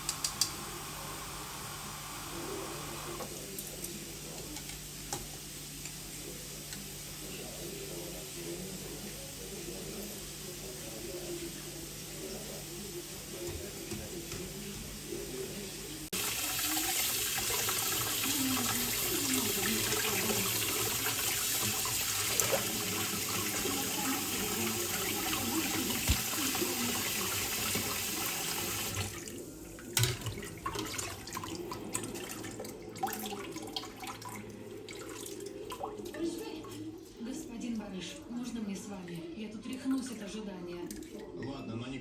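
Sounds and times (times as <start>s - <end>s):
water running from a tap: 0.0s - 41.4s.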